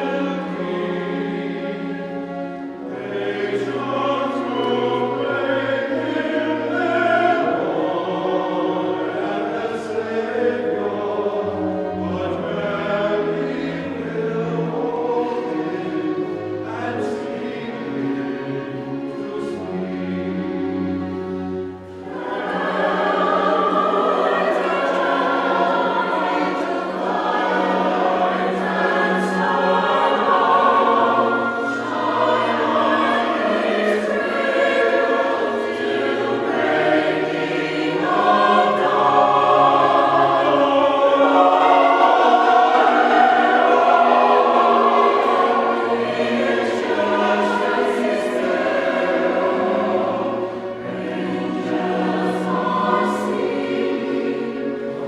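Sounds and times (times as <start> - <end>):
choir singing sacred music: 0.0 - 55.0.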